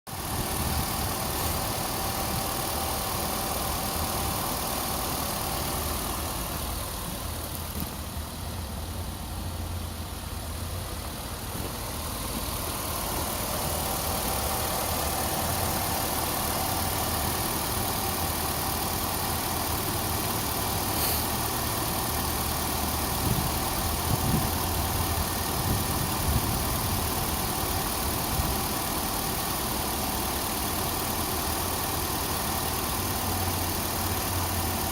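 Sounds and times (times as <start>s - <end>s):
car engine idling: 0.1s - 34.9s.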